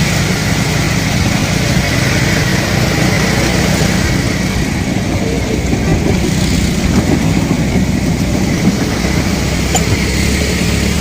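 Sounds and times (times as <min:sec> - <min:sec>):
train engine drone: 0:00.0 - 0:11.0.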